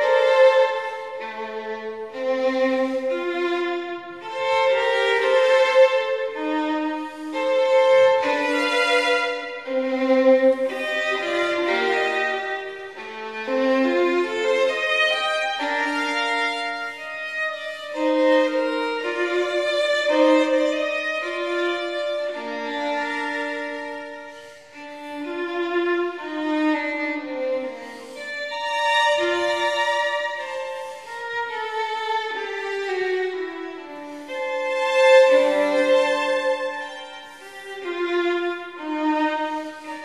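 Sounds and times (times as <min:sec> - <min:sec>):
solo violin slow melody: 0:00.0 - 0:40.0.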